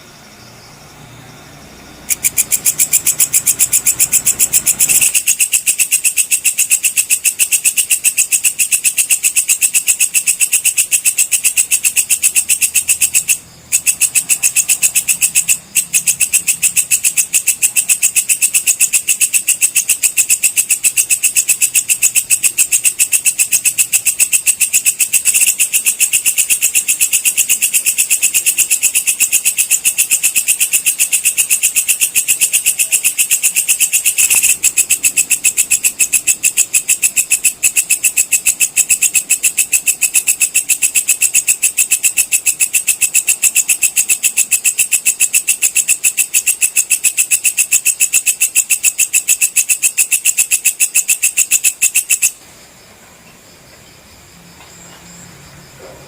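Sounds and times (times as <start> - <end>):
katydid chirping: 0.0 - 52.4.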